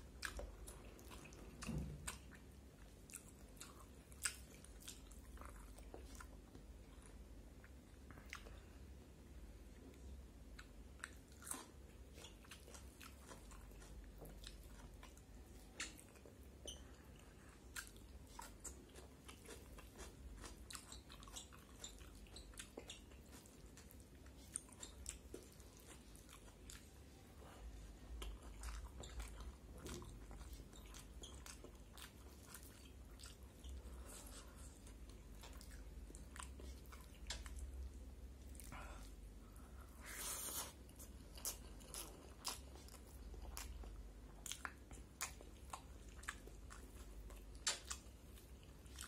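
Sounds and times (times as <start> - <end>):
faint low hum: 0.0 - 49.0
person chewing food: 0.0 - 49.0.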